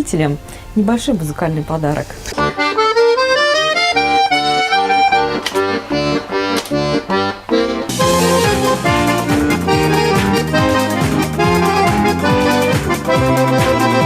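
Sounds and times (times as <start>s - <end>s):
accordion duet: 0.9s - 14.0s.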